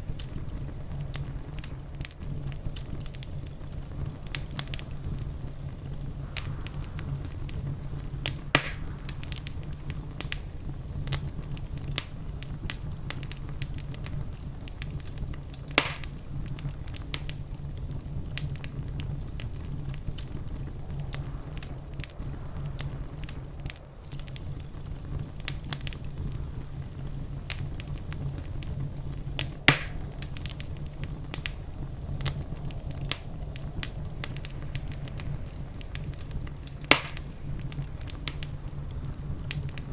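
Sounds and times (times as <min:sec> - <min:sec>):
fire crackling: 0:00.0 - 0:39.9
fire popping: 0:00.0 - 0:39.9
fire rumbling: 0:00.0 - 0:39.9.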